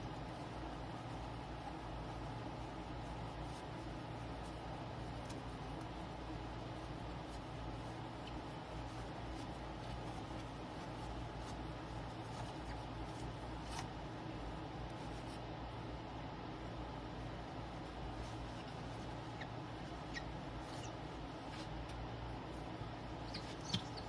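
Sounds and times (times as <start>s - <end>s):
rubbing and scratching on a panel: 0.0s - 15.9s, 16.7s - 21.8s
steady low hum: 0.0s - 24.0s.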